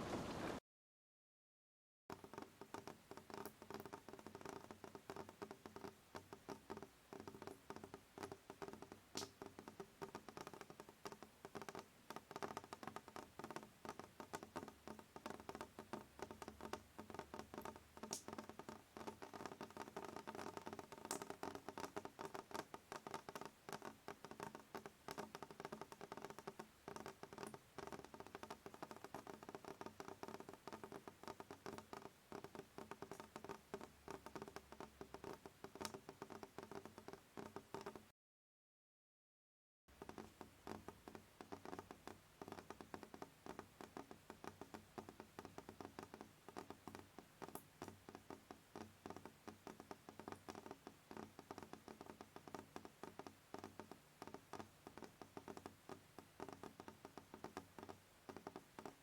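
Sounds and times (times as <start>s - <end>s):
rain pattering: 2.1s - 38.1s, 39.9s - 59.0s.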